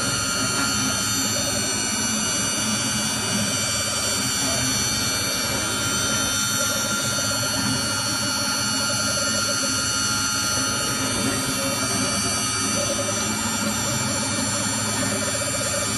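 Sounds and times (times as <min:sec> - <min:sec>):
cnc router machining noise: 0:00.0 - 0:15.9.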